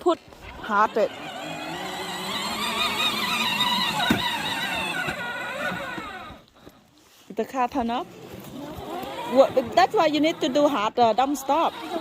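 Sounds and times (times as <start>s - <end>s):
toy car electric motor whining: 0.4s - 6.7s, 7.9s - 12.0s.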